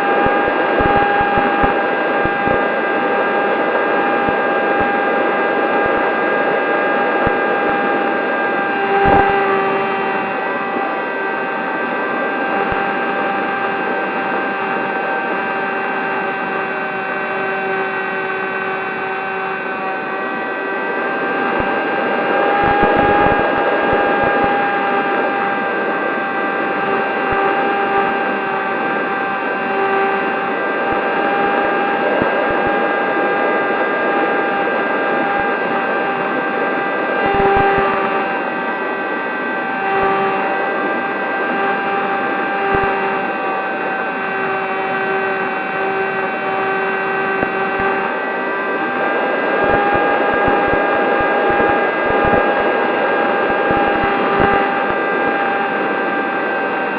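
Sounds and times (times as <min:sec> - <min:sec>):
model plane motor whining: 0:06.9 - 0:56.9.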